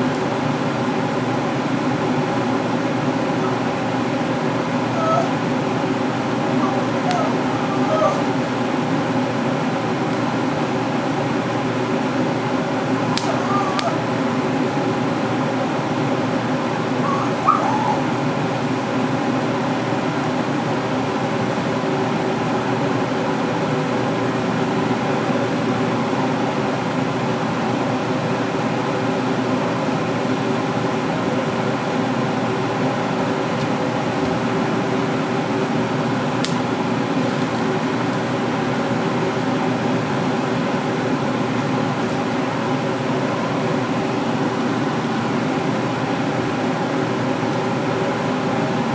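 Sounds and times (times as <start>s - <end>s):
fan whirring: 0.0s - 48.9s.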